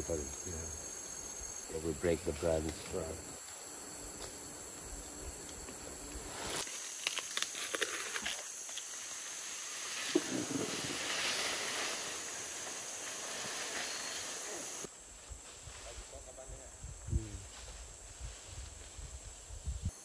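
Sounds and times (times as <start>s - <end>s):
insects droning: 0.0s - 20.0s
rustling leaves and crackling twigs: 0.0s - 20.0s.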